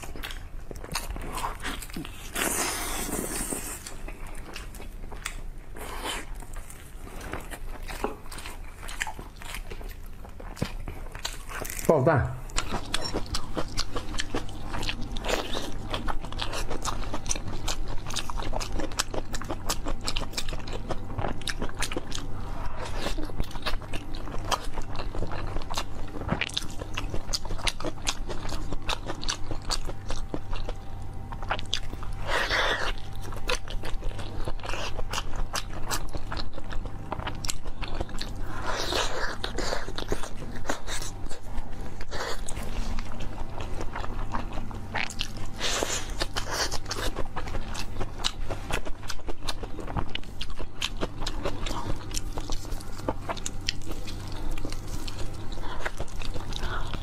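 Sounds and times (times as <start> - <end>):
wet chewing and biting: 0.0 - 11.9, 12.5 - 57.0
steady low hum: 0.0 - 57.0.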